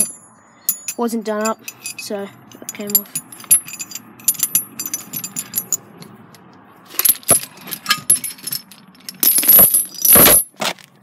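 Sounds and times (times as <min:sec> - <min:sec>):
chain and shackles clinking: 0:00.0 - 0:10.8.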